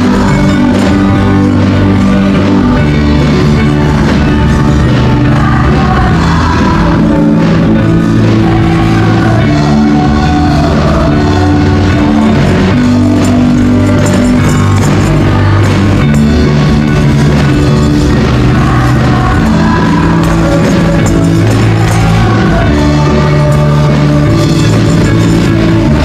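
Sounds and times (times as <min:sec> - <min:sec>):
amplified singers: 0:00.0 - 0:26.0
live band playing worship music: 0:00.0 - 0:26.0
tambourines shaking: 0:00.0 - 0:26.0.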